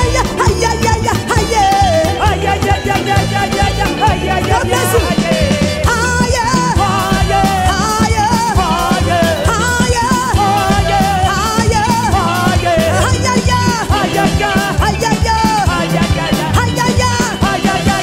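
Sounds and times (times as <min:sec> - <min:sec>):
gospel band playing: 0:00.0 - 0:18.0
person singing: 0:00.0 - 0:18.0.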